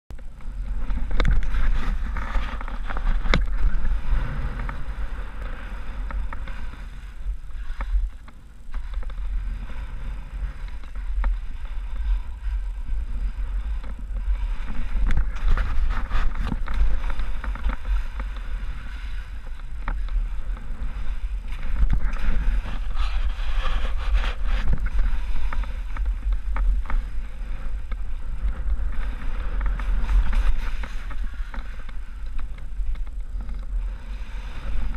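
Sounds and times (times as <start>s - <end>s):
wind rumble on microphone: 0.1s - 34.9s
skis swishing through snow: 0.6s - 34.9s.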